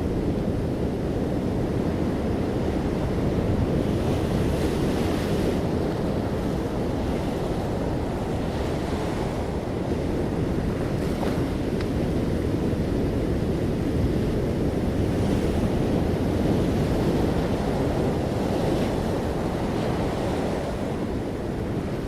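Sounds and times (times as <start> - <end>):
surf rumbling: 0.0 - 22.0.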